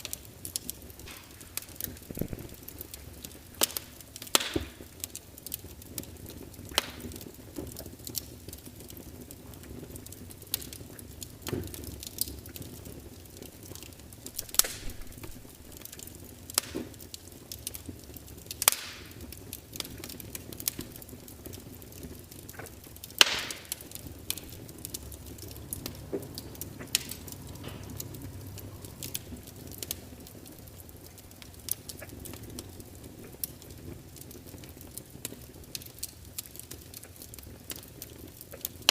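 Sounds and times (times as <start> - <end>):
log fire crackling: 0.0 - 38.9
low fire hiss: 0.0 - 38.9.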